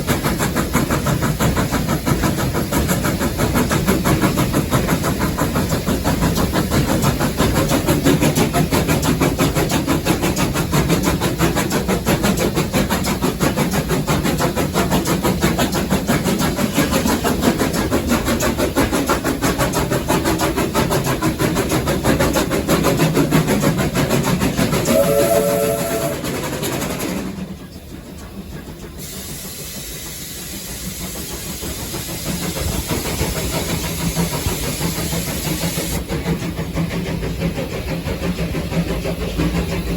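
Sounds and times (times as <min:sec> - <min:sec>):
steam locomotive rattling with hiss: 0:00.0 - 0:39.9.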